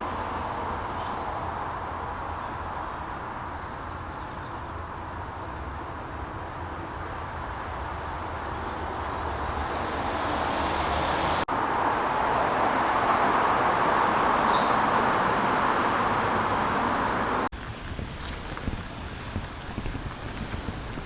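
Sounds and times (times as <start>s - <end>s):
road traffic noise: 0.0s - 21.0s.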